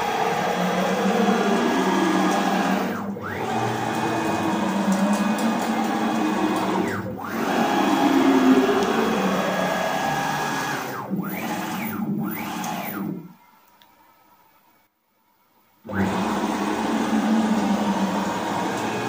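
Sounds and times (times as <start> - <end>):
stepper motors whining: 0.0 - 13.4, 15.9 - 19.0.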